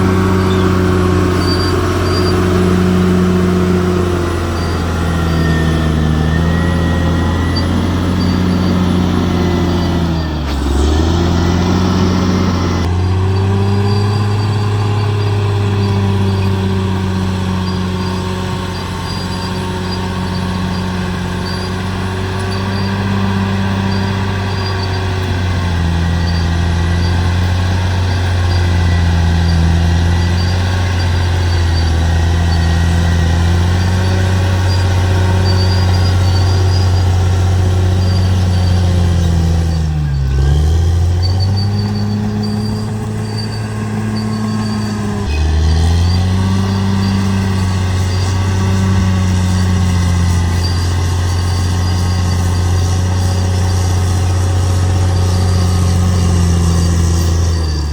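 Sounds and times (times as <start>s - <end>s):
bulldozer diesel engine: 0.0s - 57.9s.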